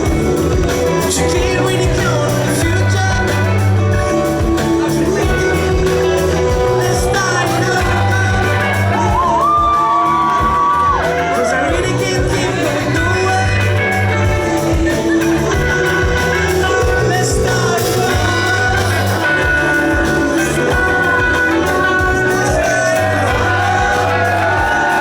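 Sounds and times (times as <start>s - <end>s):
person singing: 0.0s - 25.0s
rock band playing live: 0.0s - 25.0s.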